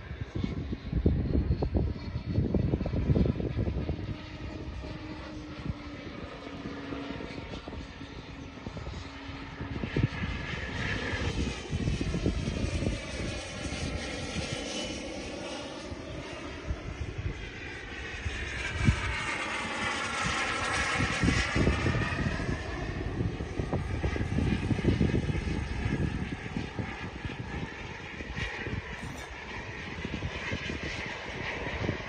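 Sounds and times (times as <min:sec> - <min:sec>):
model plane turboprop whine: 0:00.0 - 0:32.0.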